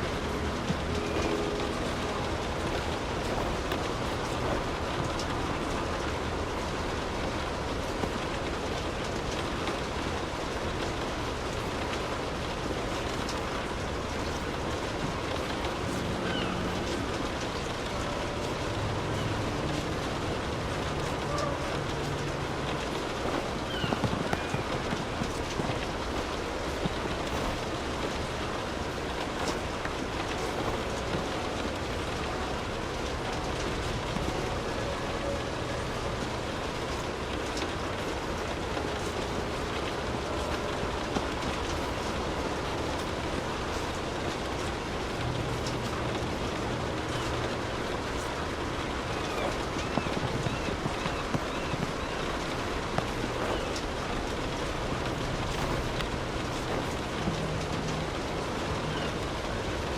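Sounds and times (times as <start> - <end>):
sharp raindrops striking close: 0.0 - 59.9
steady rain falling: 0.0 - 59.9.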